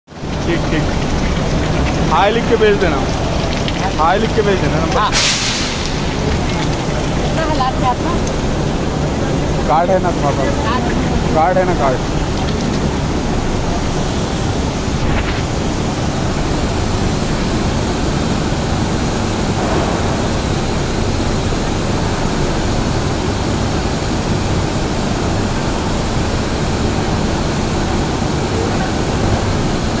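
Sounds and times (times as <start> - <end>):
industrial machinery roar: 0.1 - 30.0.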